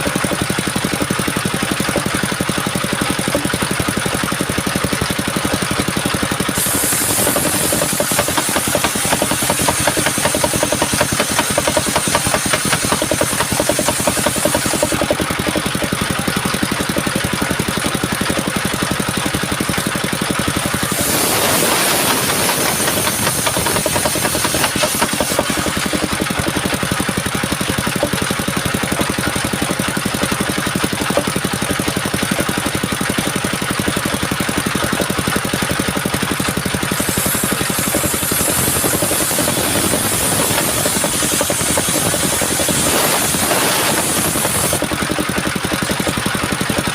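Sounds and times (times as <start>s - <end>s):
circular sawmill sawing wood: 0.0s - 46.9s.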